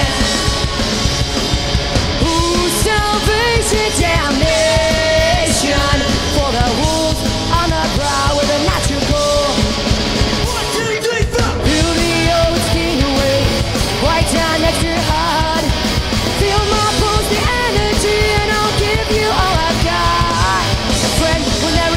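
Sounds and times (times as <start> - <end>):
person singing: 0.0 - 1.2, 2.2 - 9.8, 10.4 - 21.9
loud rock music: 0.0 - 21.9.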